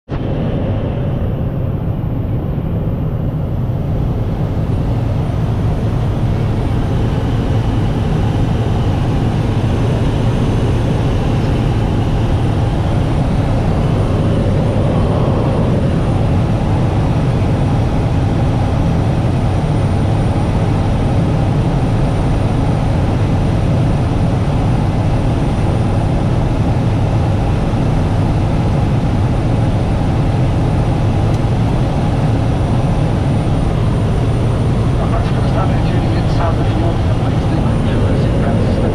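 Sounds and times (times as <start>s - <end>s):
aircraft engine drone: 0.1s - 38.9s.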